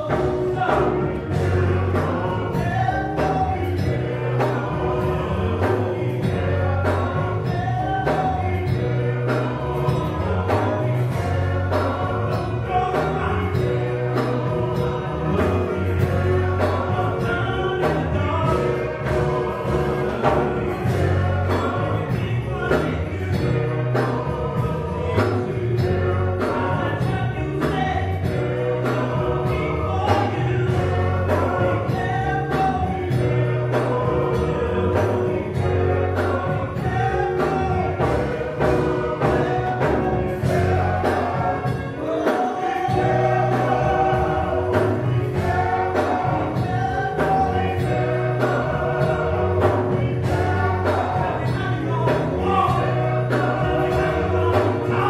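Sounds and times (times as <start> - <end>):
band with drums and keyboard: 0.0 - 55.0
men's vocal group singing: 0.0 - 55.0.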